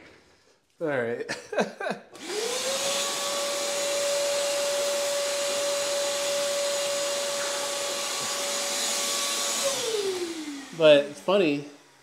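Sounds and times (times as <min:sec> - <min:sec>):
electric motor whine: 0:02.2 - 0:12.0.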